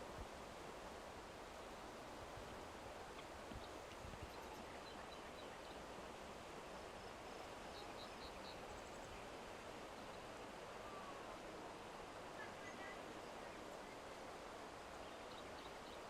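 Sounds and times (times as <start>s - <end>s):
outdoor ambient hiss: 0.0s - 16.0s.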